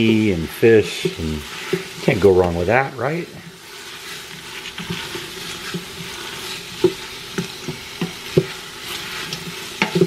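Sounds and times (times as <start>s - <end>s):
vegetables sizzling in pot: 0.0s - 10.0s.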